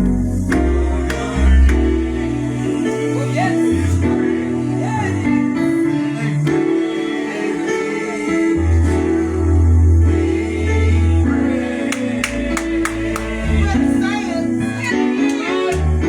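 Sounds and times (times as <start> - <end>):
gospel music chords and bass: 0.0 - 16.0
voices singing: 0.0 - 16.0.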